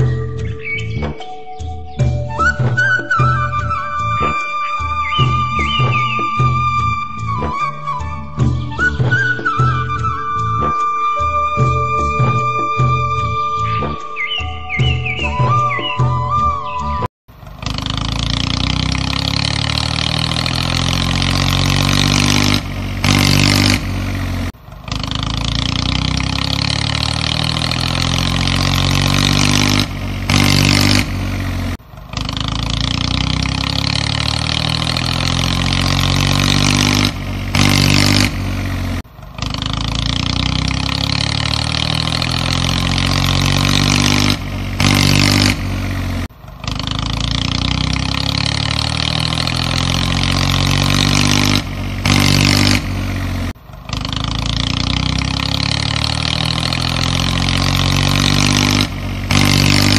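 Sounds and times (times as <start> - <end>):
tractor engine rumbling: 0.0 - 59.9.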